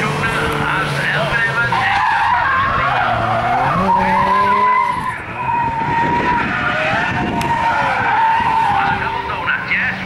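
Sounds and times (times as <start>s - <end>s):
car engine under hard throttle: 0.0s - 10.0s
tyres squealing: 0.7s - 10.0s.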